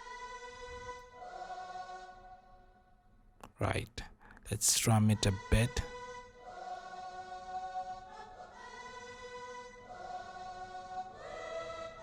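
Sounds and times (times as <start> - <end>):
synthetic choir chords: 0.0 - 2.9, 4.6 - 12.0.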